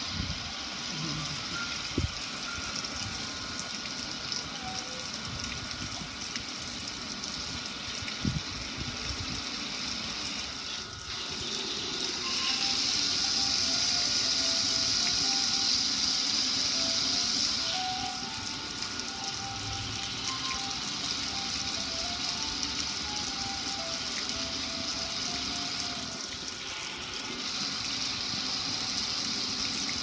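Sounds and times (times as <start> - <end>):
water running onto concrete: 0.0 - 30.0
water splashing on metal grill: 0.0 - 30.0.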